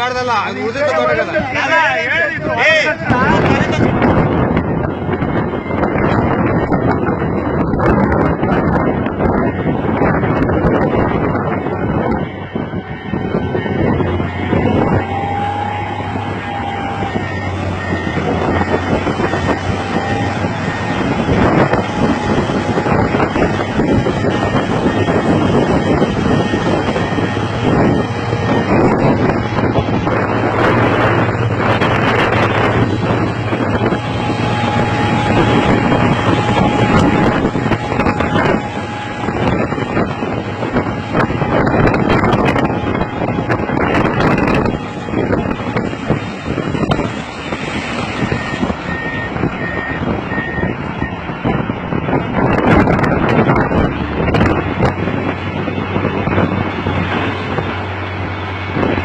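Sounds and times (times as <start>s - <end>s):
diesel engine running: 0.0s - 59.0s
wind buffeting microphone: 0.0s - 59.0s.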